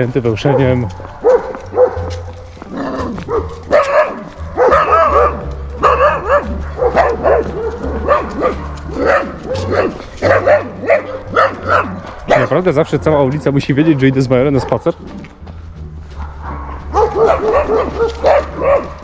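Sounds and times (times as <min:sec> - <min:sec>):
dog barking rapidly: 0:00.3 - 0:02.3, 0:03.1 - 0:15.1, 0:16.2 - 0:19.0.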